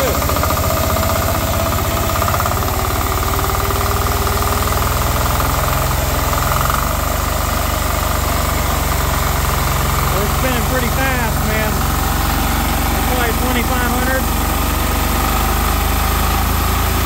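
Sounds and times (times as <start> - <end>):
diesel engine running fast: 0.0 - 17.0.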